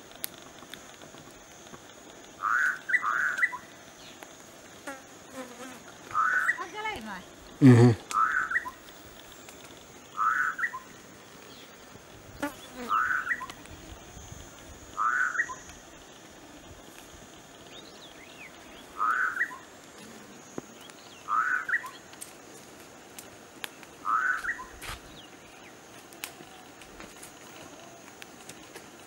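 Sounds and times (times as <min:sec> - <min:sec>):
faint high hiss: 0:00.0 - 0:29.0.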